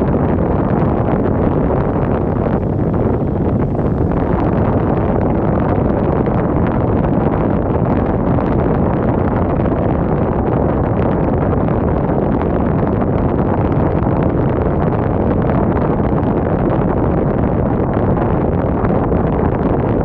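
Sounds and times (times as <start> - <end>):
wind blowing: 0.0 - 20.0
wind buffeting microphone: 0.0 - 20.0.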